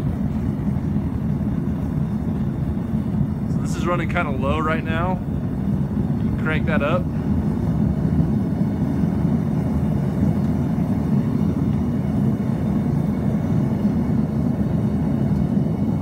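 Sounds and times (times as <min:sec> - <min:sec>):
gas burner flame rushing: 0:00.0 - 0:16.0.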